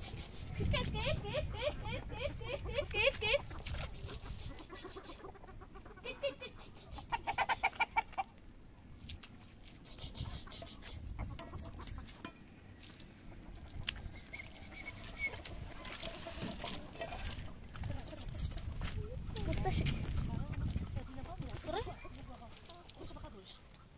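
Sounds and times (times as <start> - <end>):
chickens clucking: 0.0 - 8.4, 9.8 - 23.9.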